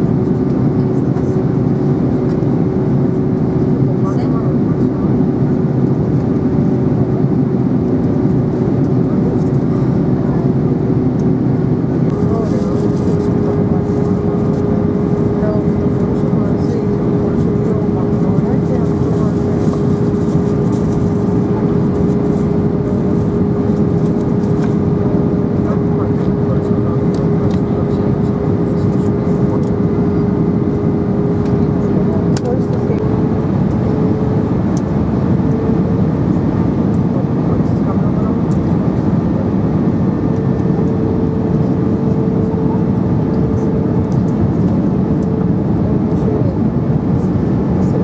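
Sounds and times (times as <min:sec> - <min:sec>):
constant cabin hum: 0:00.0 - 0:48.0
engine and airflow roar: 0:00.0 - 0:48.0.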